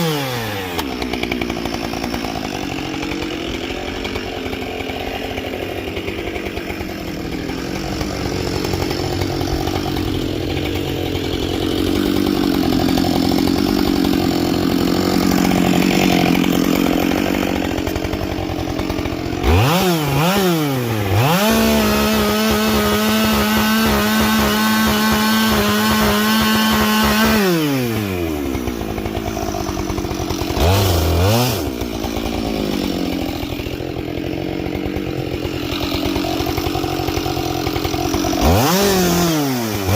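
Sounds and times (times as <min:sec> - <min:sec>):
chainsaw cutting wood: 0:00.0 - 0:39.9
chainsaw idling: 0:00.0 - 0:39.9
chainsaw revving: 0:00.0 - 0:39.9.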